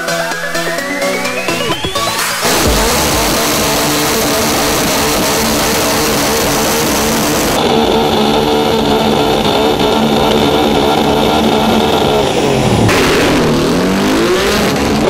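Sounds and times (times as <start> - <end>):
drag car engine running: 0.0 - 15.0.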